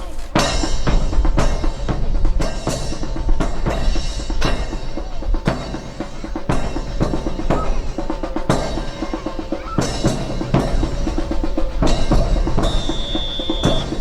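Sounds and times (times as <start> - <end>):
snare and bass drum cadence: 0.0 - 14.0.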